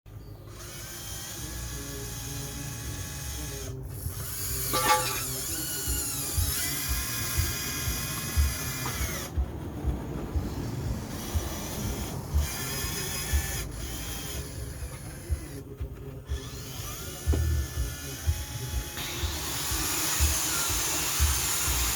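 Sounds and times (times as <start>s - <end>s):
electric motors whining: 0.4s - 21.9s.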